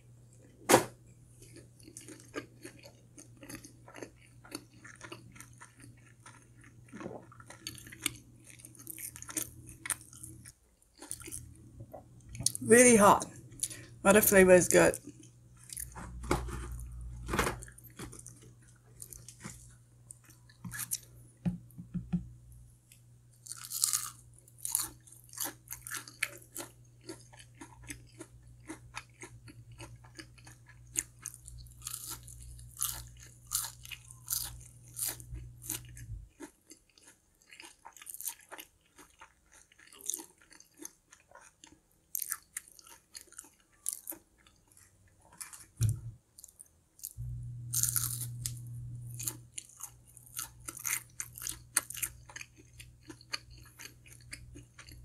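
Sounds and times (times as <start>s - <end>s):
low background hum: 0.0s - 39.0s, 43.8s - 55.0s
chewing crispy chicken wings: 1.3s - 16.0s, 17.6s - 21.2s, 22.9s - 55.0s.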